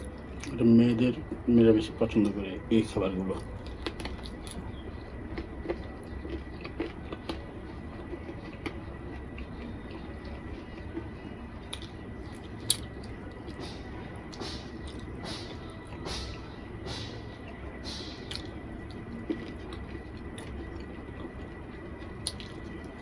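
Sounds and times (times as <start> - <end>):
wet chewing: 2.2 - 23.0.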